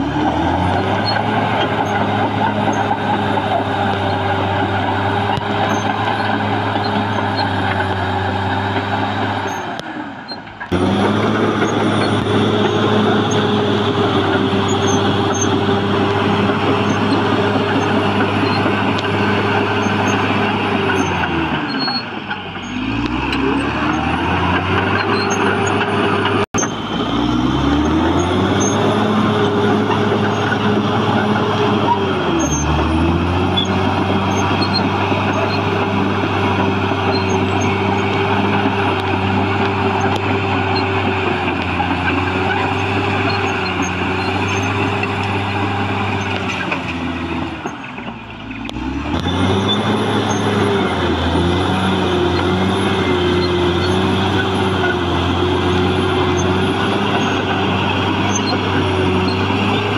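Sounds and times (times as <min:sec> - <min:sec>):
bulldozer diesel engine revving: 0:00.0 - 0:59.9.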